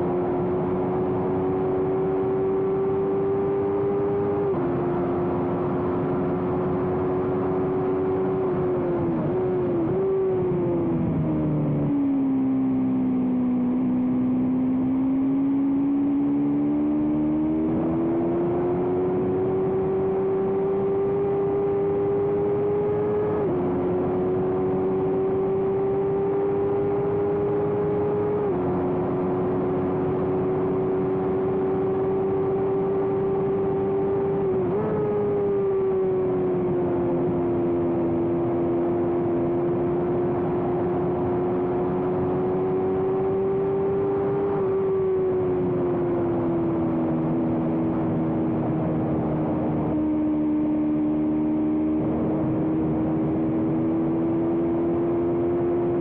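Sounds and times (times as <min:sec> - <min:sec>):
racing motorcycle engine at high revs: 0:00.0 - 0:56.0.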